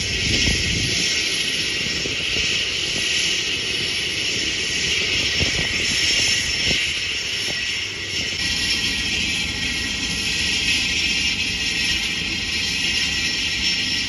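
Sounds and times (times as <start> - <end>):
propeller plane engine running: 0.0 - 14.0
wind buffeting microphone: 0.0 - 14.0.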